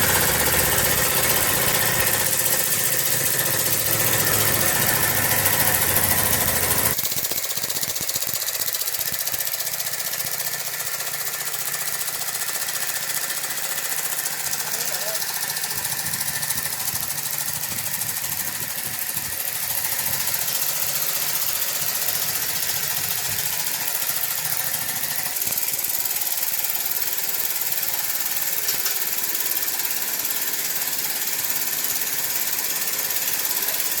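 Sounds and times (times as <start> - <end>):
steam engine knocking: 0.0 - 34.0.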